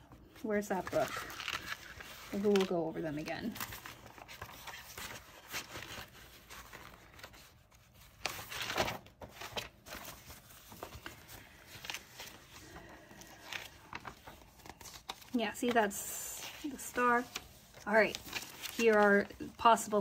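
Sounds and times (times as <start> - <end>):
paper pages rustling: 0.0 - 20.0.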